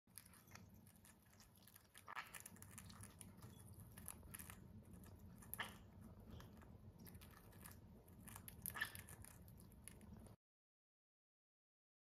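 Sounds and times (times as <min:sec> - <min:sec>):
birds pecking and crunching food: 0:00.1 - 0:10.4.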